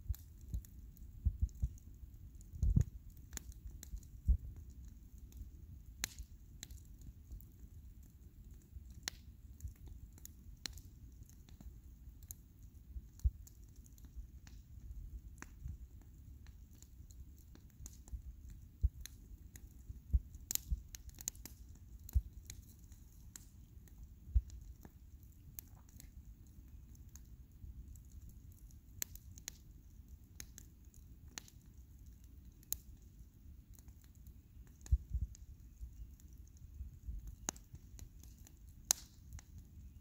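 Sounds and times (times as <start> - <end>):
bonfire crackling and popping: 0.0 - 40.0.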